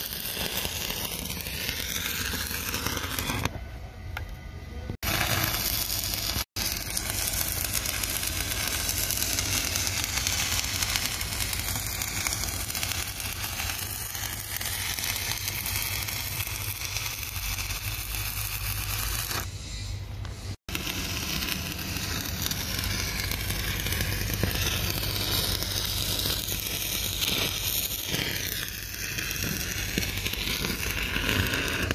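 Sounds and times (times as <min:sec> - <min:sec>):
welding arc crackling: 0:00.0 - 0:03.6, 0:05.0 - 0:31.9.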